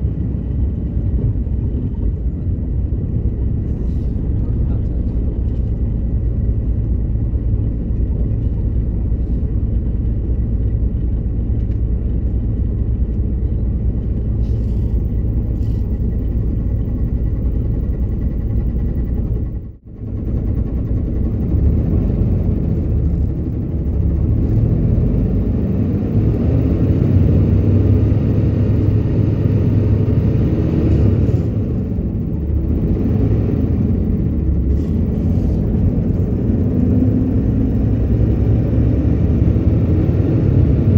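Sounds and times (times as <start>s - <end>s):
bus engine rumble: 0.0s - 40.9s
road noise: 0.0s - 40.9s.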